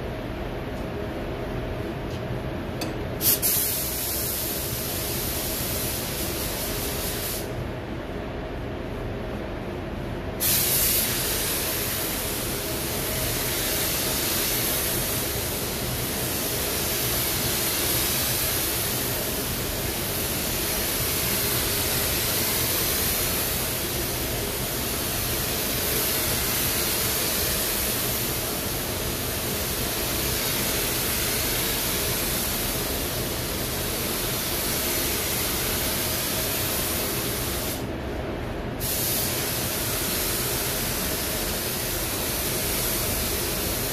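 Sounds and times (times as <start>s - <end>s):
steady low hum: 0.0s - 43.9s
paint spray gun hissing: 3.2s - 7.5s, 10.4s - 37.9s, 38.8s - 43.9s.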